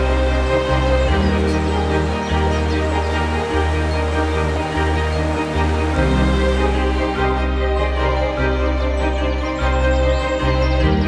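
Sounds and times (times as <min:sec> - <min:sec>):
layered held tones: 0:00.0 - 0:11.0
sustained bass line: 0:00.0 - 0:11.0.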